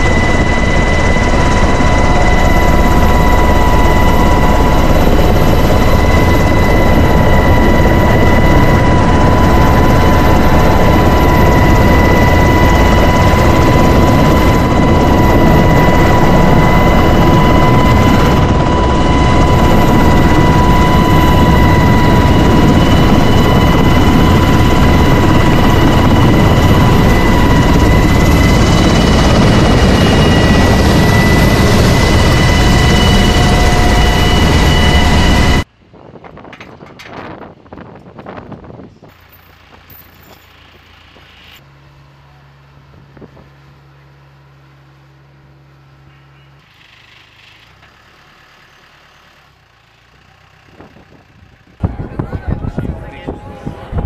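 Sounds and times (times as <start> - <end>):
high whine: 0.0 - 47.7
helicopter rotor and engine noise: 0.0 - 54.0.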